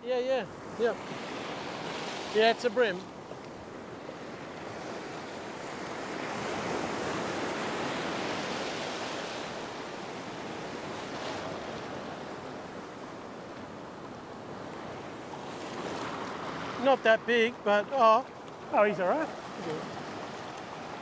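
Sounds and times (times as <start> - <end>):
ocean surf breaking on beach: 0.2 - 21.0.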